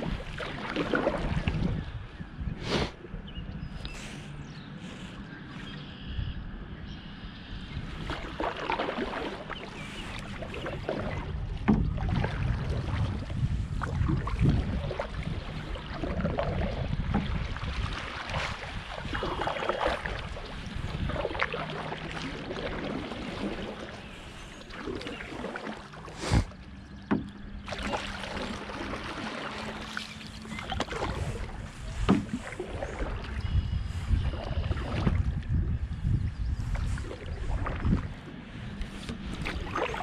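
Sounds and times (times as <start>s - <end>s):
paddle strokes splashing in water: 0.0s - 1.8s, 7.7s - 40.0s
wind rumble on microphone: 0.0s - 40.0s.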